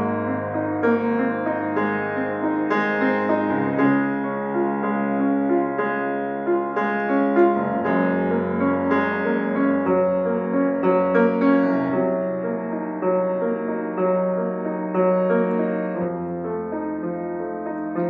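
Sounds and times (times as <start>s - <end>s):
solo piano: 0.0s - 18.0s.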